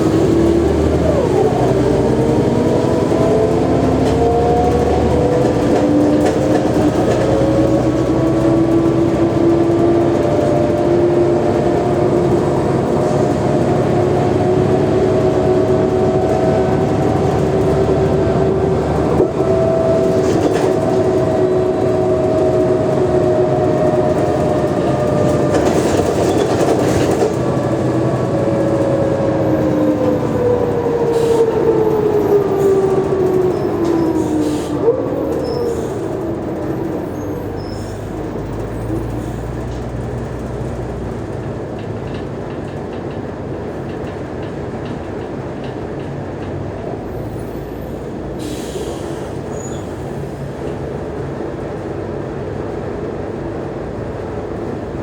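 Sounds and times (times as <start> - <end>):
bus drivetrain whining: 0.0 - 55.0
bus rumbling: 0.0 - 55.0.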